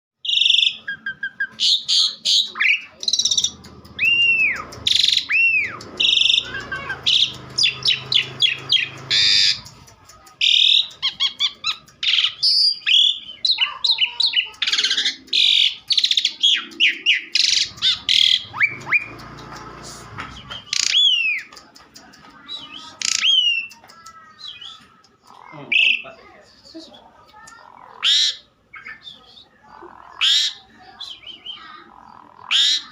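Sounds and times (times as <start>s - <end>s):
starling singing: 0.2s - 32.9s.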